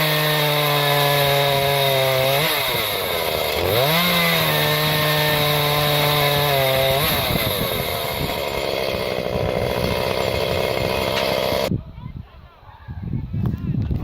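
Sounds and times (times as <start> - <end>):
chainsaw cutting wood: 0.0 - 11.7
chainsaw running: 0.0 - 11.7.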